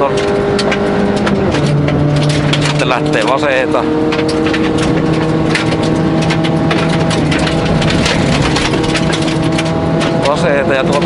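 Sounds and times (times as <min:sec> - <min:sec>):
gravel pattering against underbody: 0:00.0 - 0:11.0
rally car engine running hard: 0:00.0 - 0:11.0.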